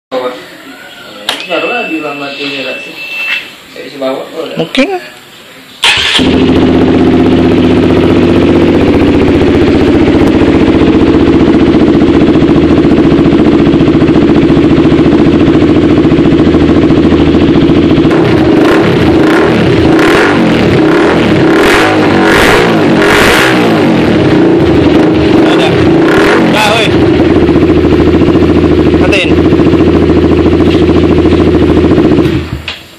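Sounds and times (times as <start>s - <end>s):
motorcycle engine idling and revving: 5.8s - 32.9s.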